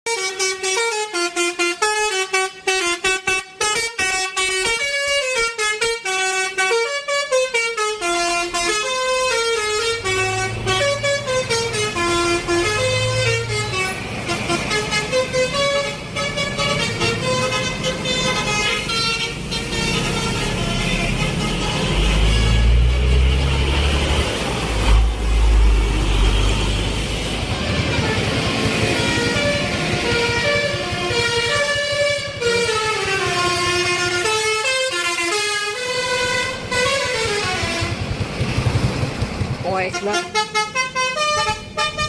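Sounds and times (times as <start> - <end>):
musical horn playing a melody: 0.1 - 38.1, 39.9 - 42.0.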